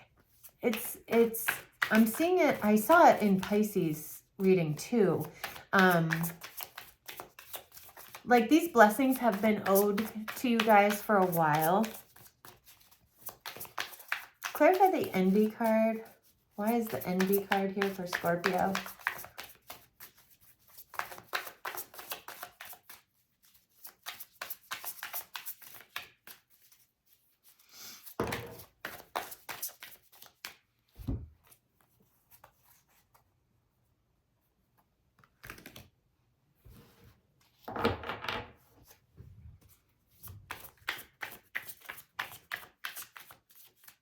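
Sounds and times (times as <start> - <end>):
cards being shuffled: 0.2 - 4.0, 5.2 - 26.8, 27.4 - 33.2, 35.1 - 35.9, 39.6 - 44.0.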